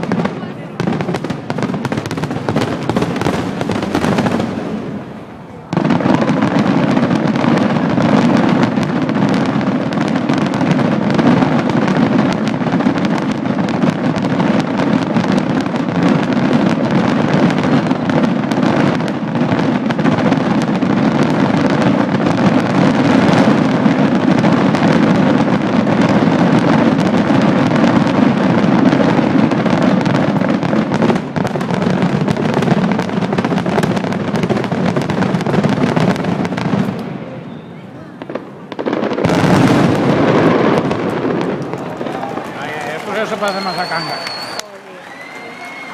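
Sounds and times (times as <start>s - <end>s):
firecrackers crackling: 0.0s - 45.9s
fireworks barrage: 0.0s - 45.9s.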